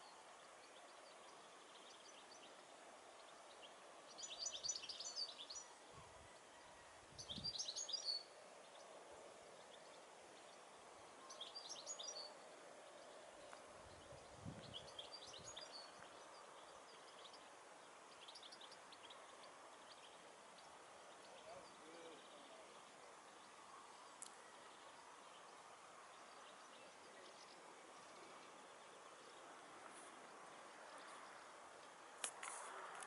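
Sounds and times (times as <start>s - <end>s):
faint bird chirps: 0.0s - 32.1s.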